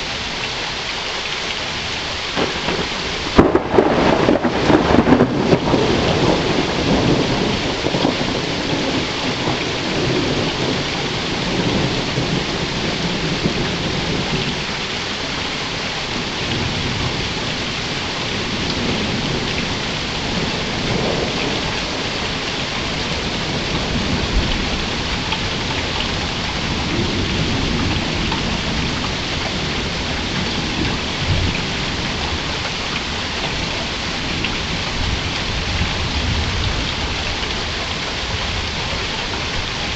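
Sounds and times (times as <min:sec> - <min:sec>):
steady rain falling: 0:00.0 - 0:39.9
low rumble of thunder: 0:02.4 - 0:14.9, 0:16.1 - 0:39.9.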